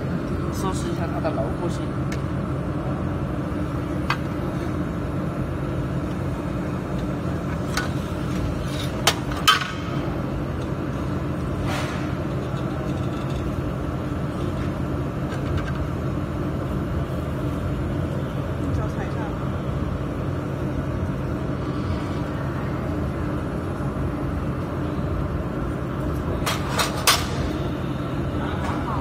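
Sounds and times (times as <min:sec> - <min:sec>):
cooling unit hum: 0:00.0 - 0:29.0.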